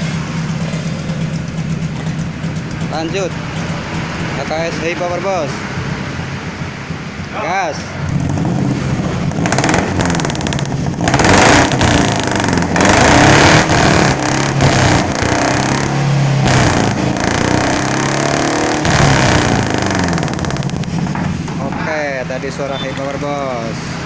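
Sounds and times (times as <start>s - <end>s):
pickup truck engine revving: 0.0s - 7.3s, 7.9s - 21.5s.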